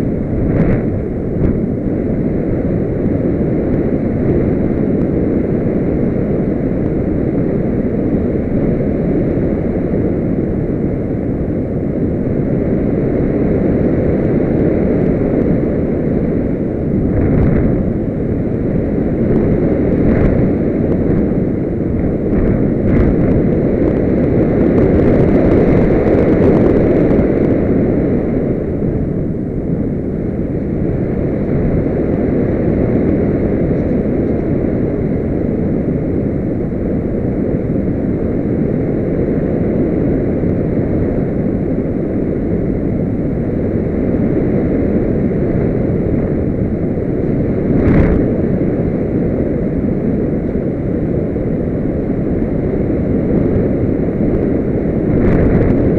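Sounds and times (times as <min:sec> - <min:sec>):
airflow rushing over microphone: 0:00.0 - 0:55.9.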